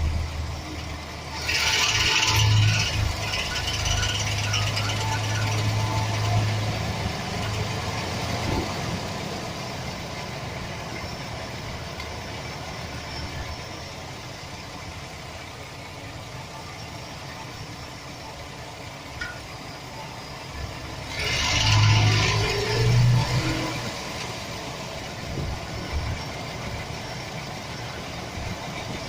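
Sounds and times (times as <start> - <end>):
engine idling with a rattle: 0.0 - 29.0.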